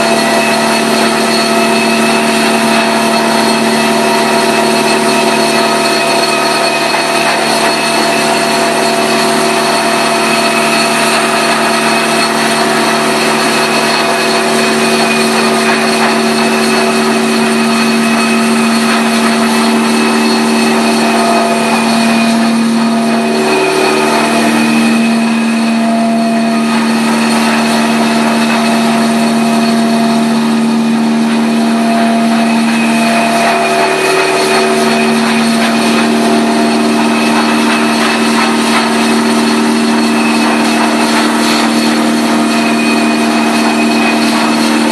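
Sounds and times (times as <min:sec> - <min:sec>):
carpet extraction motor drone: 0:00.0 - 0:44.9.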